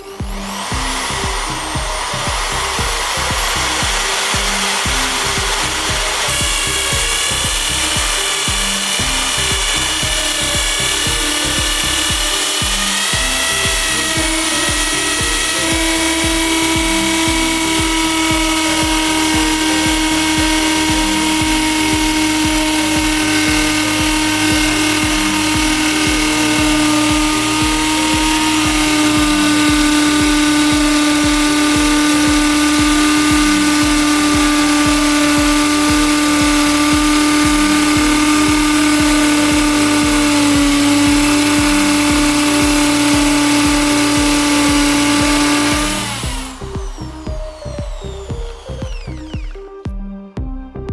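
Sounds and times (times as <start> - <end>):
electric drill whine: 0.0 - 50.0
background music with low beat: 0.0 - 50.9.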